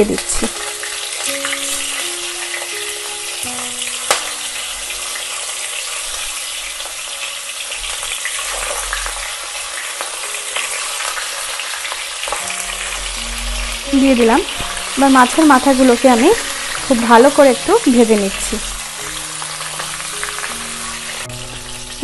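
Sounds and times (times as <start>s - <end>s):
fish frying in oil: 0.0s - 22.0s.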